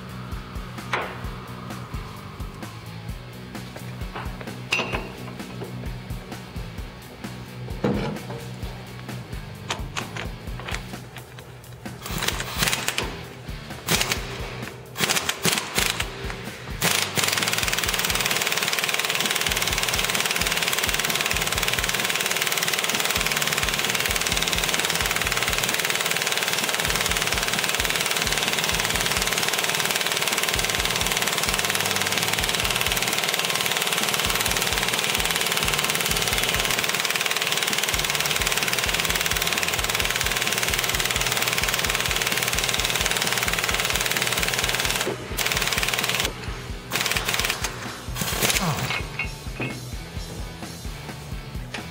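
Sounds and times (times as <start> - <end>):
impact wrench rattling: 3.4 - 6.6, 7.7 - 50.4.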